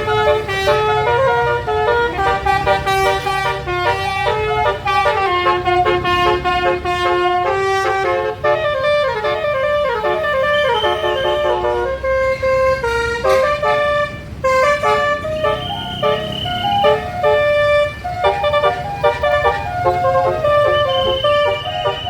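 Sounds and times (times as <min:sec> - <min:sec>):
musical bus horn melody: 0:00.0 - 0:22.0.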